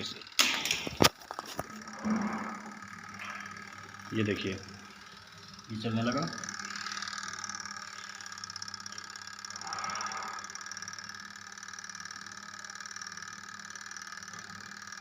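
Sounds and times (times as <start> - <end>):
spin-dryer motor humming and whining: 0.0 - 15.0.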